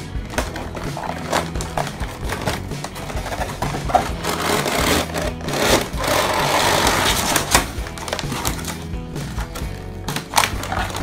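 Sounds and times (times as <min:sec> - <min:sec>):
plastic wrapping crinkling: 0:00.3 - 0:05.7, 0:06.3 - 0:11.0
cardboard scraping and tapping: 0:00.3 - 0:11.0.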